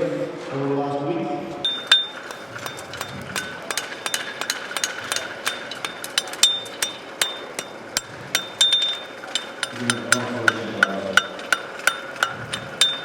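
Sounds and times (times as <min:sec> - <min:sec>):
hammers striking horseshoes on anvils: 0:01.7 - 0:13.0.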